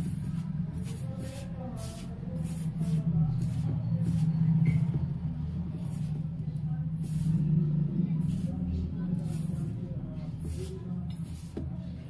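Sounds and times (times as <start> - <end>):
low engine-like hum: 0.0 - 12.0.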